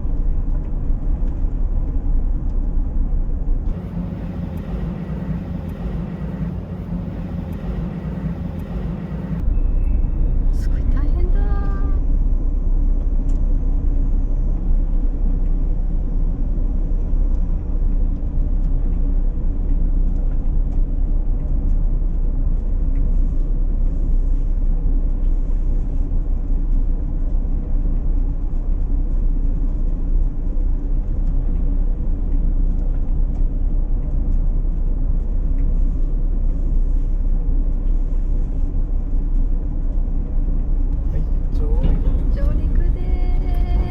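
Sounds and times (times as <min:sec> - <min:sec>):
vehicle rumbling: 0:00.0 - 0:43.9.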